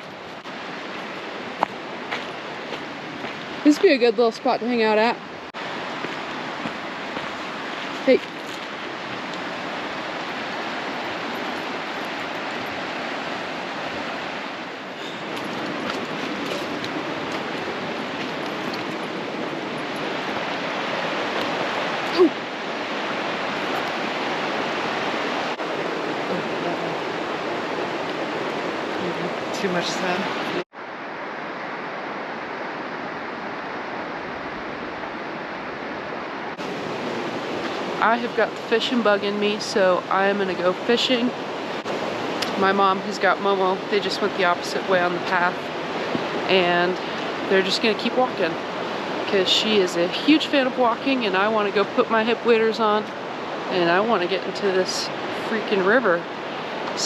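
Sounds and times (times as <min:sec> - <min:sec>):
fast-flowing creek rushing: 0:00.0 - 0:57.0.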